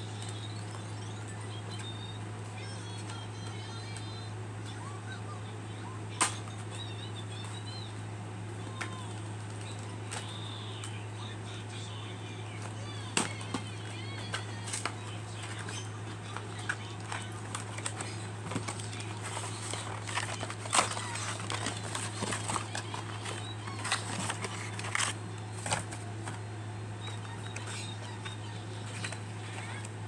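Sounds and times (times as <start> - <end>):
packaging clicks and crackles: 0.0 - 30.0
steady low hum: 0.0 - 30.0.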